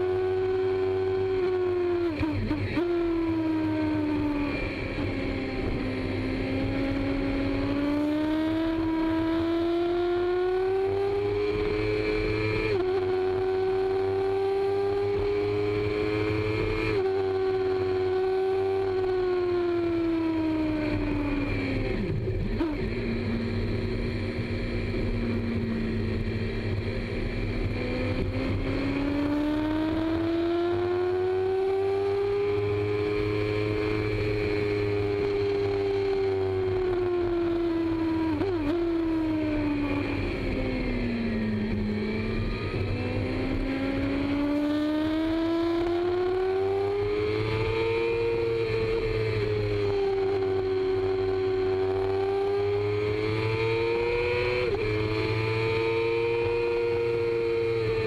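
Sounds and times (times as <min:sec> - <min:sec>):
motorcycle engine revving: 0:00.0 - 0:58.0
wind and road rumble: 0:00.0 - 0:58.0.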